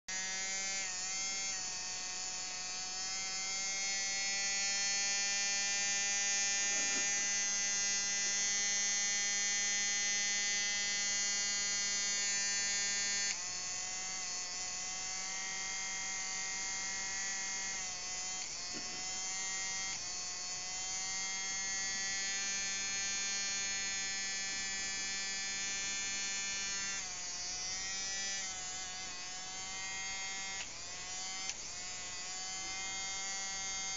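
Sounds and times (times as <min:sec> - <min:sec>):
electric nail grinder whining: 0:00.0 - 0:33.9.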